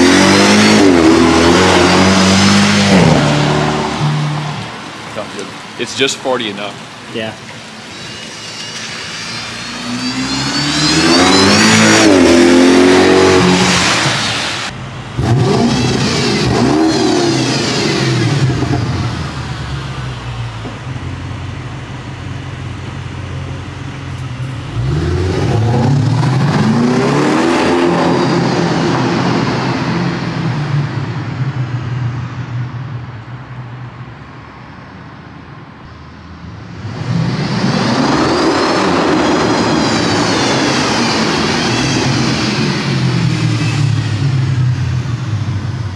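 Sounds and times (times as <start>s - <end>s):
car engine revving: 0.0s - 33.1s, 35.9s - 45.9s.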